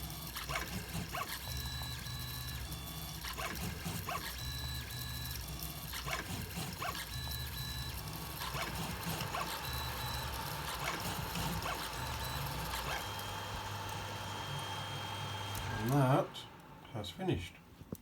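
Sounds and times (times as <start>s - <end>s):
steady printer hum: 0.0s - 17.9s
stepper motors whining: 0.3s - 17.5s.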